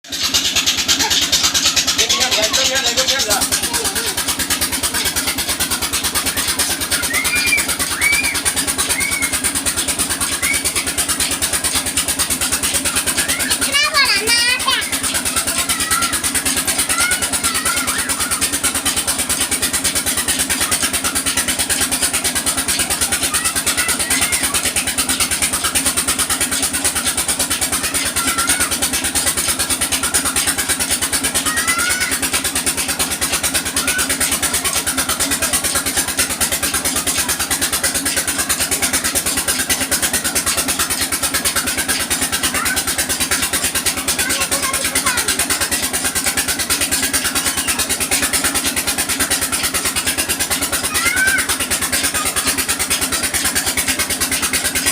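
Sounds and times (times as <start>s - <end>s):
engine running with pulsing beat: 0.0s - 54.9s.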